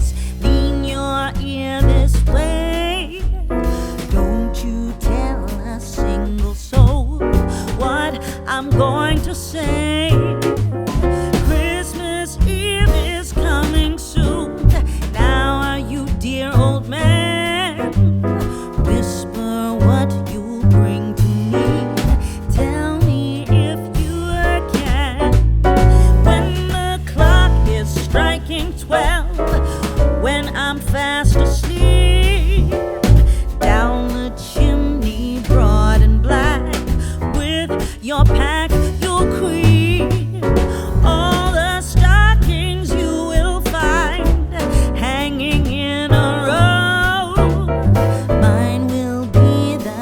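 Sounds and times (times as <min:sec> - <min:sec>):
upbeat song with singing: 0:00.0 - 0:50.0.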